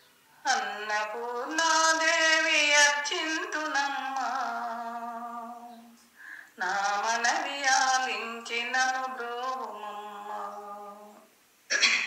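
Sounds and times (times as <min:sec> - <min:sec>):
woman singing unaccompanied: 0:00.4 - 0:11.4.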